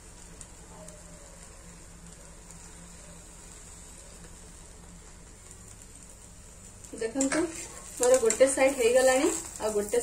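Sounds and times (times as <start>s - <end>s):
low steady hum: 0.0s - 10.0s
omelette sizzling in a pan: 0.0s - 10.0s.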